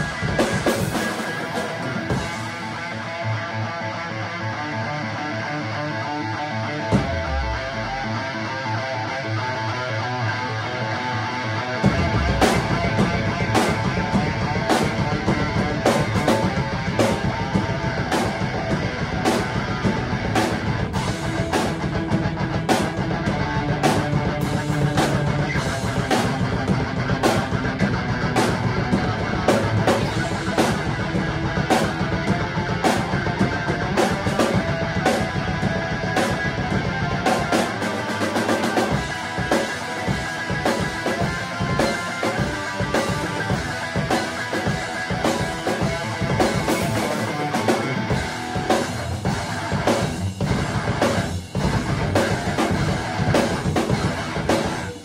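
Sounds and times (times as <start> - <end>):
drum kit played hard: 0.0 - 4.0, 6.8 - 9.5, 11.0 - 55.0
sustained electric guitar: 0.0 - 55.0.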